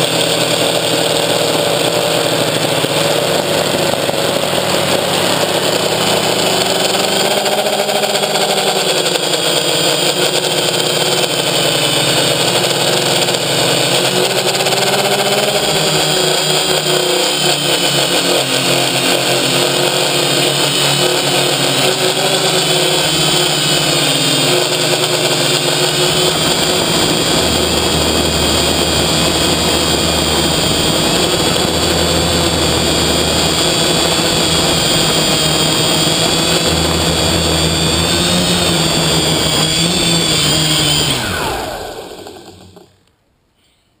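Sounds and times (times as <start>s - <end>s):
drone motors and propellers whining: 0.0s - 43.1s.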